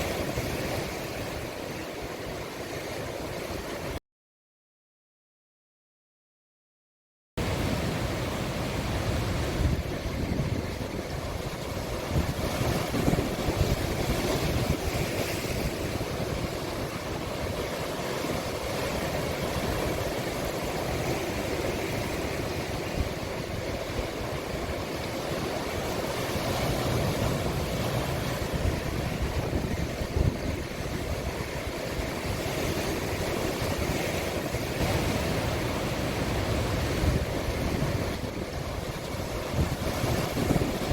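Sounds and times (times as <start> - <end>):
sea waves breaking: 0.0 - 4.0, 7.4 - 40.9
wind rumbling on microphone: 7.4 - 40.9.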